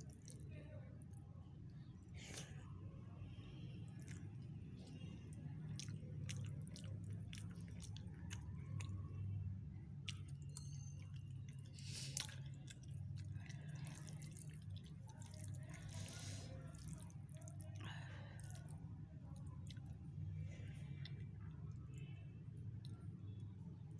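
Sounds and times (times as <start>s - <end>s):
steady low hum: 0.0s - 23.9s
wet clicks and squishes of chewing: 0.0s - 23.9s.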